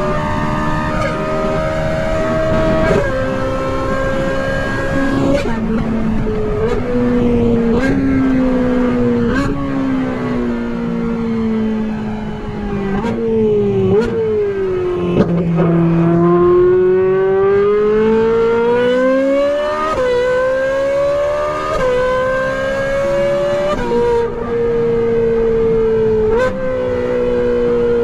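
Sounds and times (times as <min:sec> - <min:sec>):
sports car engine at full throttle: 0:00.0 - 0:28.0.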